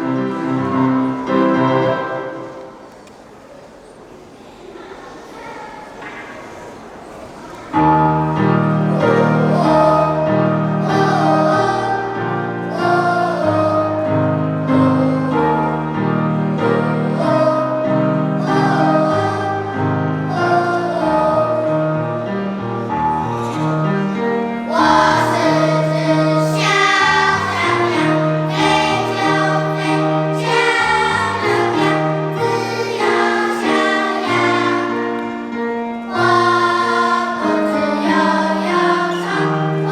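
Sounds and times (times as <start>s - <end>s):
instrumental accompaniment: 0.0s - 3.0s, 7.8s - 39.9s
children's choir singing in unison: 0.0s - 39.9s.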